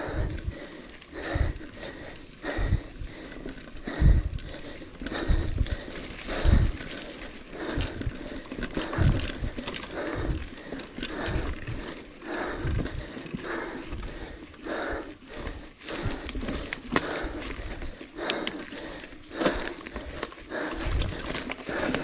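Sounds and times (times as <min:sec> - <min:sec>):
bike rumbling on trail: 0:00.0 - 0:22.0
heavy breathing: 0:00.0 - 0:22.0.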